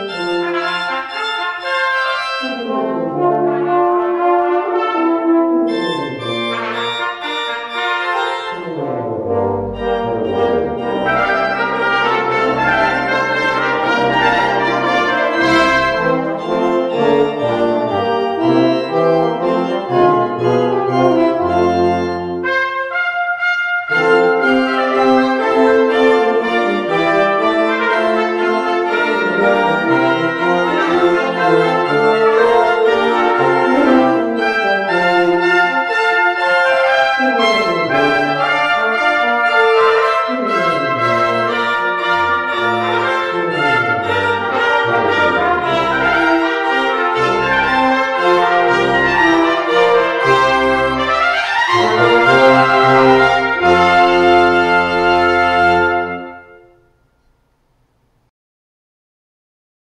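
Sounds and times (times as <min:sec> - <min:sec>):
pipe organ: 0:00.0 - 0:56.7
brass ensemble playing: 0:00.0 - 0:57.1.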